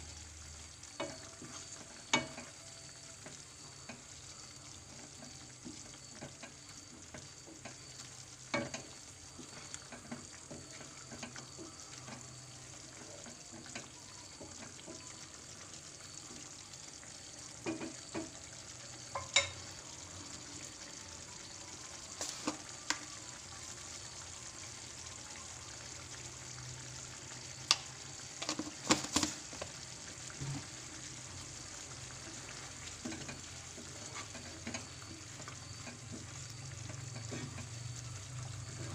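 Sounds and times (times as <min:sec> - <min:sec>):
curry simmering with low sizzle: 0:00.0 - 0:38.9.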